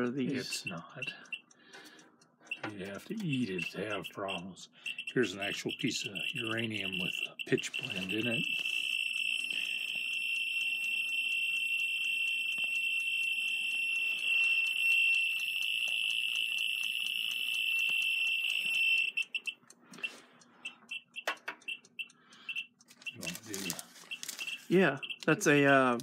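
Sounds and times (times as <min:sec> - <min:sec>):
geiger counter clicking: 0:00.0 - 0:26.0.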